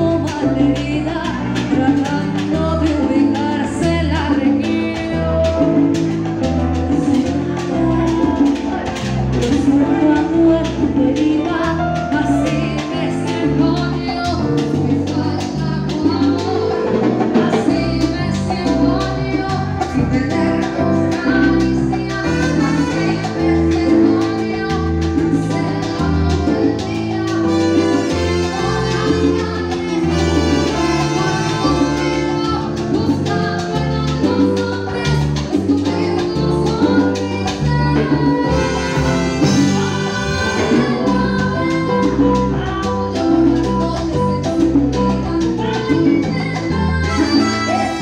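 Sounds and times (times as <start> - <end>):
salsa band playing: 0.0 - 48.0
woman singing: 0.0 - 48.0.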